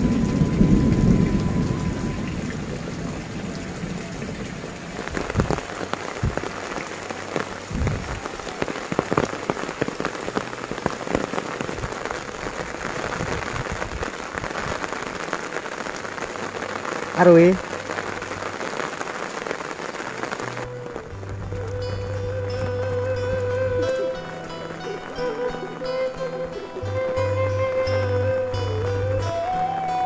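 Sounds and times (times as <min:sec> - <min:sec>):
heavy water drops splashing: 0:00.0 - 0:26.2
steady rain falling: 0:00.0 - 0:30.0
thunder rumbling: 0:00.0 - 0:30.0.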